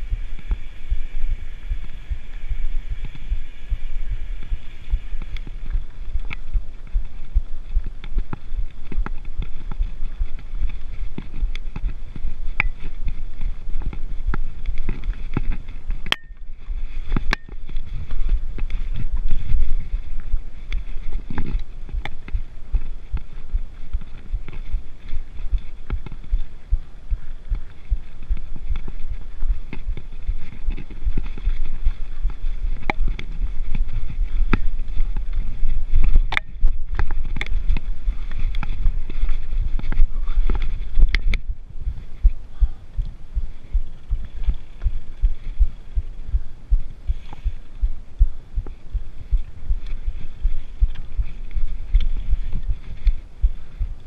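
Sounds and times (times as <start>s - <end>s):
bike tires thudding over bumps: 0.0s - 54.0s.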